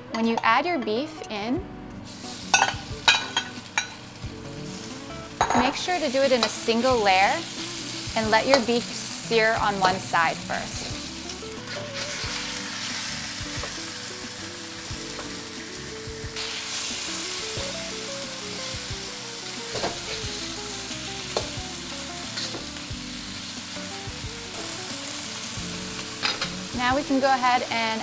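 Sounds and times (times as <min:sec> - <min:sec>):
meat sizzling in a wok: 0:02.0 - 0:28.0.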